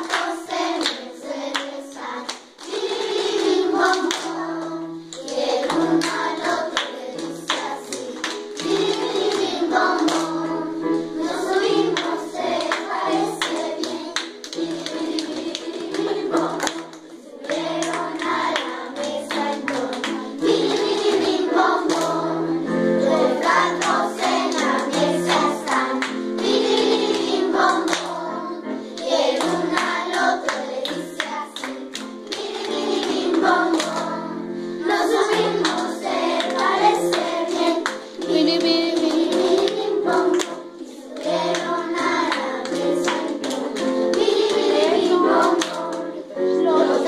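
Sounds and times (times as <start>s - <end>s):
hand claps: 0.0s - 22.3s, 23.0s - 28.2s, 29.0s - 34.2s, 34.9s - 46.2s
children's choir singing: 0.0s - 47.0s.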